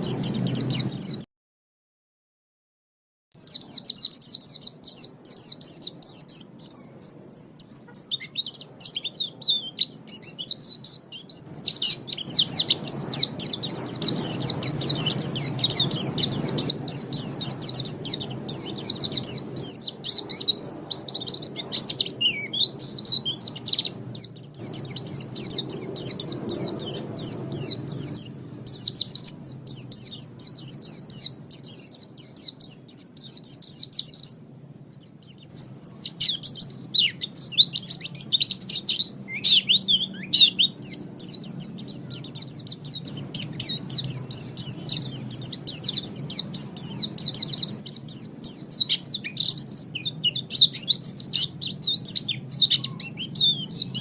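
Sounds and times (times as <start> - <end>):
bird twittering song: 0.0 - 1.3, 3.3 - 54.0.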